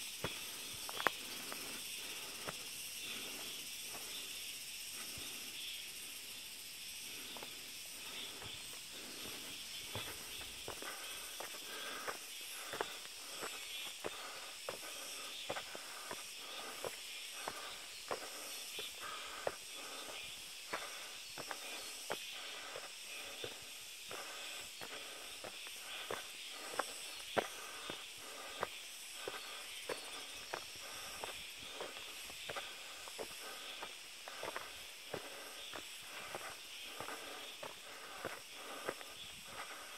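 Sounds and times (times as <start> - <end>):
footsteps on dirt path: 0.0 - 4.3, 7.1 - 39.9
steady high hiss: 0.0 - 39.9.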